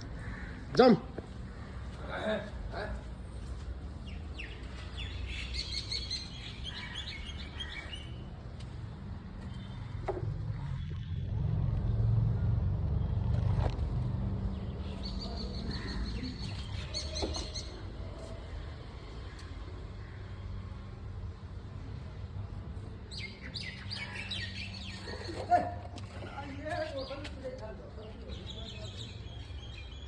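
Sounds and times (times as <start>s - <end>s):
birds chirping: 0.0s - 12.4s, 14.4s - 20.3s, 23.1s - 30.0s.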